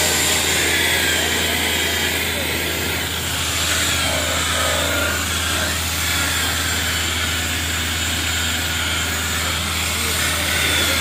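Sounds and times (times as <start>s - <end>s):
electric car polisher running: 0.0s - 11.0s.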